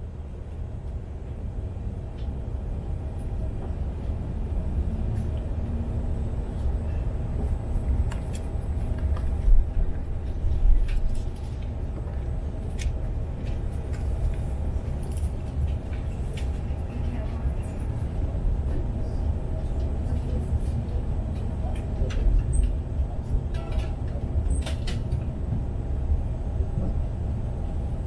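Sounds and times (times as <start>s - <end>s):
aircraft cabin rumble: 0.0s - 28.0s.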